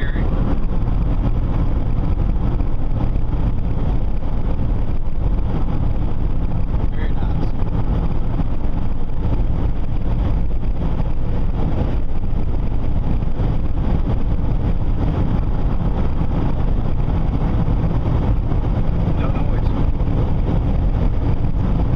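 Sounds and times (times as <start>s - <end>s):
road and engine noise in car cabin: 0.0s - 21.9s.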